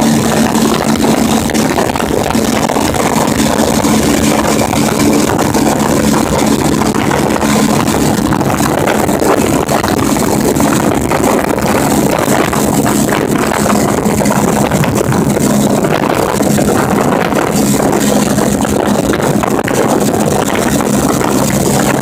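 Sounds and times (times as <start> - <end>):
motorcycle engine running: 0.0 - 22.0
wind rush on microphone: 0.0 - 22.0.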